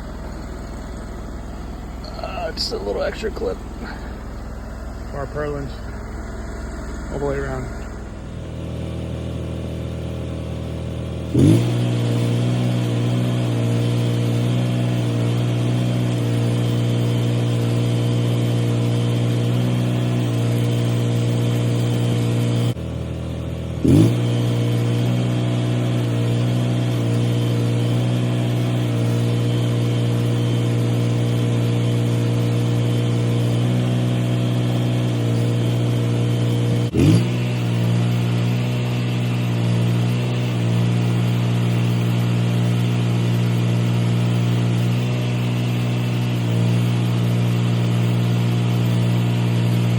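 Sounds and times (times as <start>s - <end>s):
engine revving: 0.0s - 49.9s.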